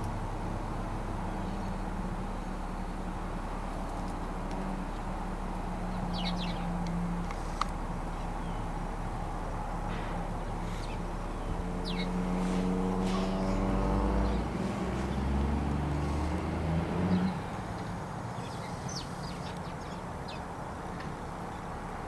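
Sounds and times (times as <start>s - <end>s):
vehicle engine driving past: 0.0s - 22.0s.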